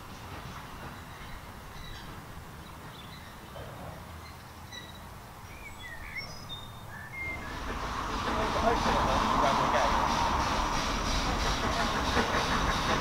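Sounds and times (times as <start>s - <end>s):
birds chirping: 0.5s - 12.1s.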